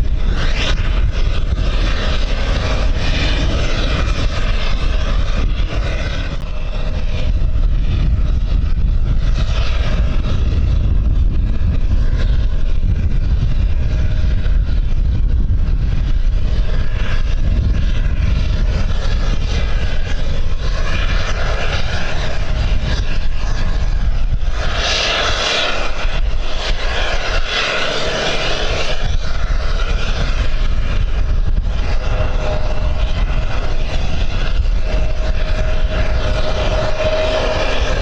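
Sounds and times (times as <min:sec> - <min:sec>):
distant aircraft engines: 0:00.0 - 0:38.0
wind buffeting microphone: 0:00.0 - 0:38.0.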